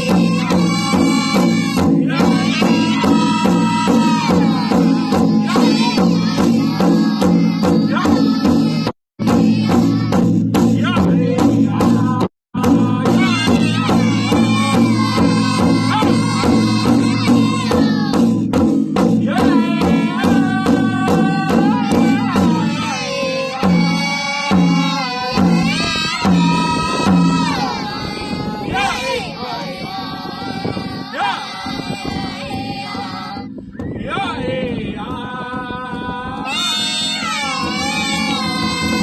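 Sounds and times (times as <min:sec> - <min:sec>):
group singing in unison: 0:00.0 - 0:18.4, 0:19.1 - 0:39.0
steady drumbeat: 0:00.0 - 0:39.0.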